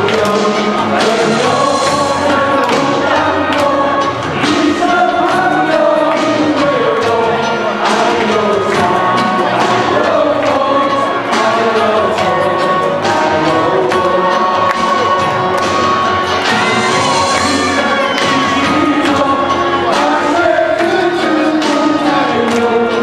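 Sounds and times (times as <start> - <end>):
men singing in chorus: 0.0 - 23.0
people clapping along: 0.0 - 23.0
pop music accompaniment with beat: 0.0 - 23.0.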